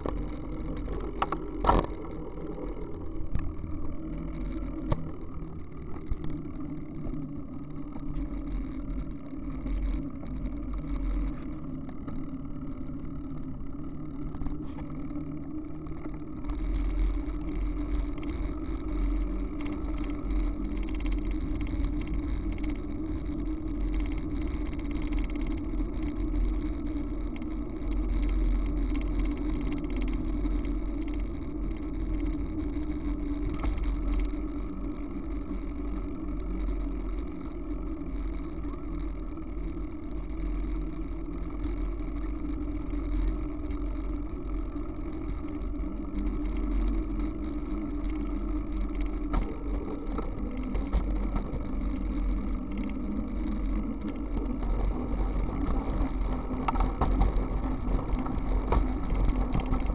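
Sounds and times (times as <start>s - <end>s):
bicycle rolling on asphalt: 0.0s - 59.9s.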